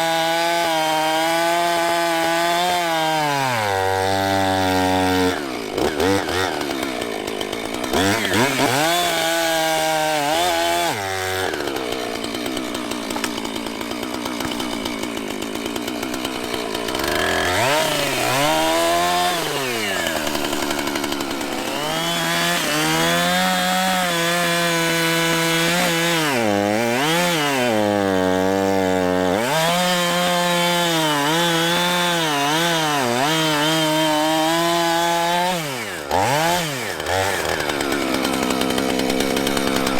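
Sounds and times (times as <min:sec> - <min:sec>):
chainsaw cutting through tree: 0:00.0 - 0:39.9.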